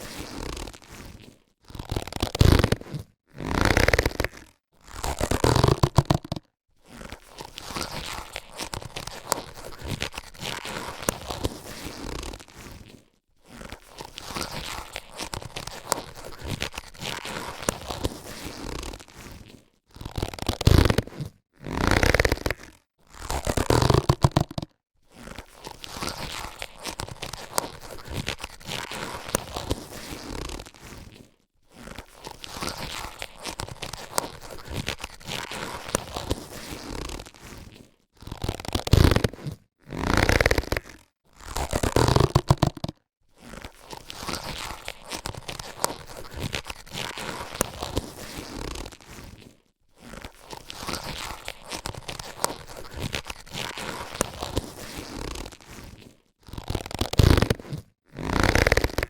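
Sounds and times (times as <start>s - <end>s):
rubber gloves crinkling: 0.0s - 59.0s.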